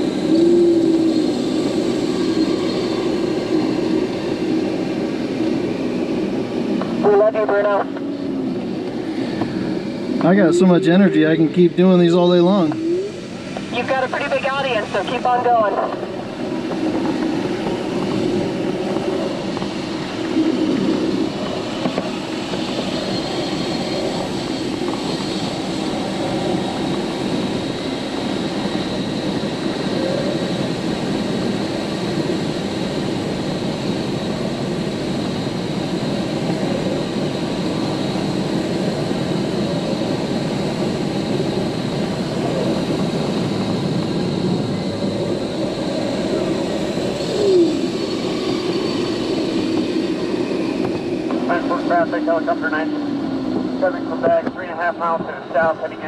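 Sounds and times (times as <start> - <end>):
rush of air over glider canopy: 0.0 - 56.0.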